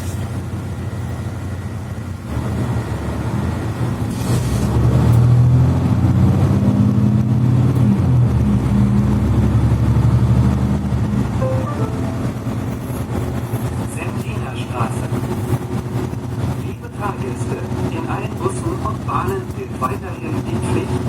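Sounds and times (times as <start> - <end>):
bus diesel engine from inside: 0.0 - 21.0.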